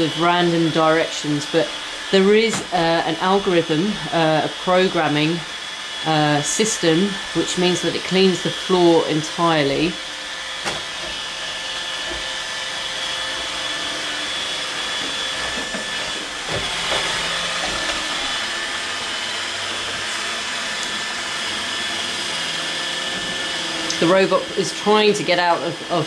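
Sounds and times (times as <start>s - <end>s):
robot vacuum whirring: 0.0s - 26.0s.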